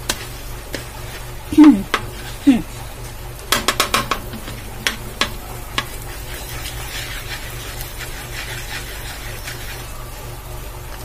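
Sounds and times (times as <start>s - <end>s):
margarine sizzling in a wok: 0.0s - 11.0s.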